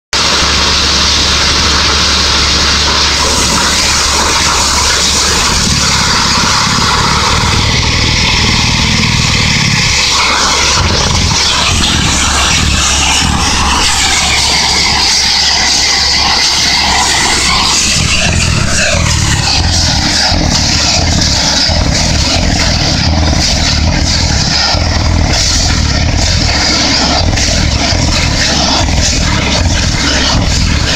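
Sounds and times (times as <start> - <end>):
drilling rig mechanical drone: 0.1 - 30.9.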